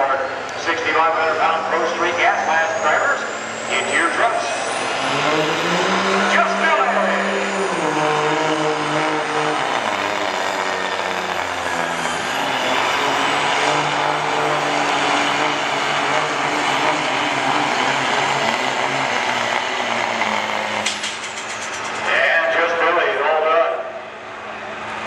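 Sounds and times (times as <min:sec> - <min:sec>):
diesel engine running under load: 0:00.0 - 0:25.0.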